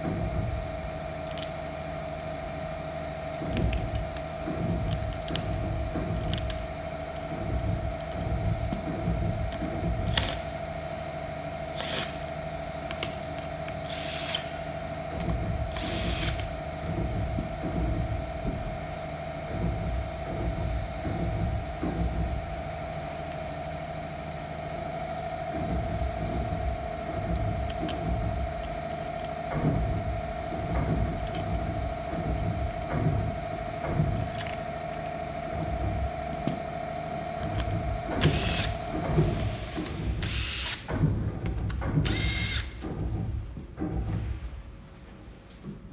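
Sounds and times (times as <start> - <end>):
steady background hum: 0.0 - 45.9.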